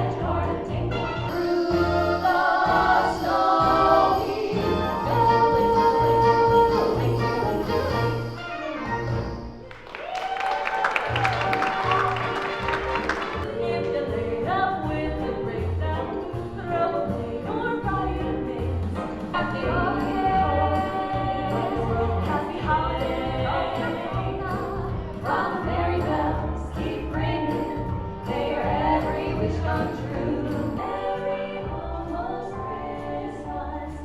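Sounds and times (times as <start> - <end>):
female trio singing in harmony: 0.0 - 8.4, 13.3 - 34.0
instrumental accompaniment with bass: 0.0 - 9.7, 11.0 - 34.0.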